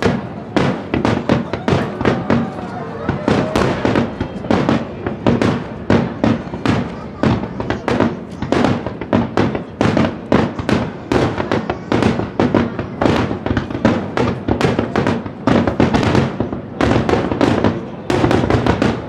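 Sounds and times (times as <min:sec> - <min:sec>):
fireworks launching and bursting: 0:00.0 - 0:19.0.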